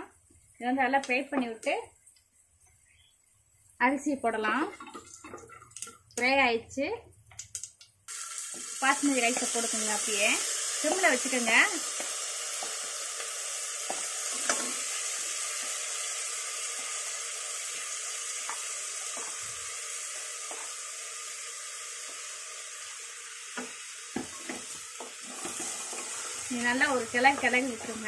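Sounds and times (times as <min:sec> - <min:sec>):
oil sizzling in a pot: 0:00.0 - 0:06.5, 0:07.4 - 0:28.0.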